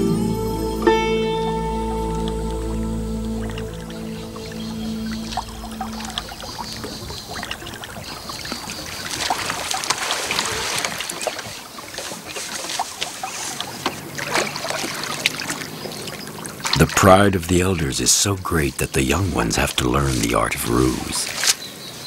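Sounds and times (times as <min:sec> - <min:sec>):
water splashing and trickling: 0:01.6 - 0:22.0.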